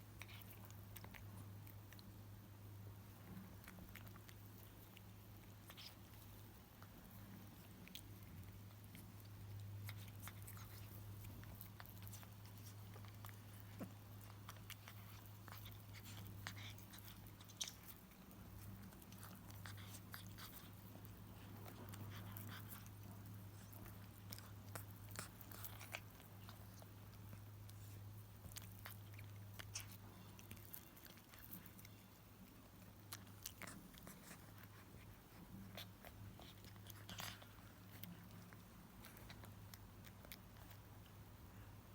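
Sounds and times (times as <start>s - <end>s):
cats chewing and crunching: 0.0s - 41.9s.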